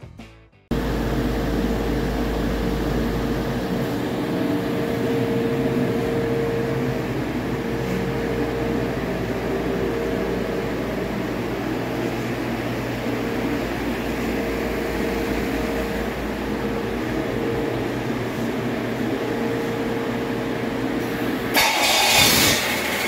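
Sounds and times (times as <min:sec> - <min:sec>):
diesel engine running: 0:00.1 - 0:23.0.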